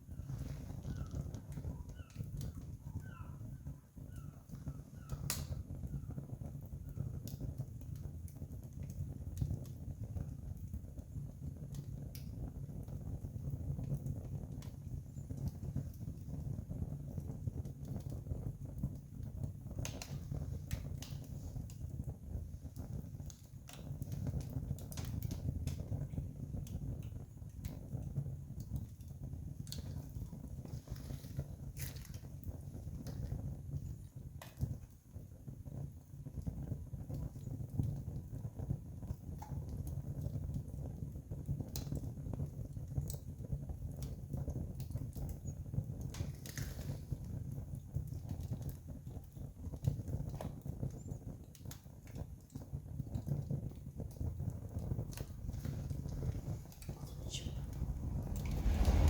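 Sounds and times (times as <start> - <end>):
campfire crackling: 0.0 - 59.0
low fire rumble: 0.0 - 59.0.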